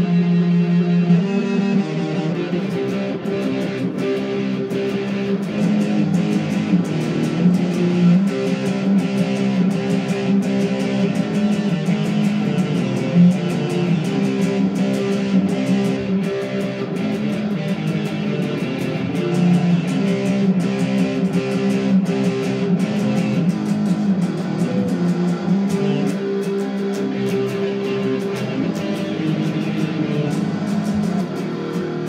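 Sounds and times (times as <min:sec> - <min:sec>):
guitar playing over a beat: 0:00.0 - 0:32.0.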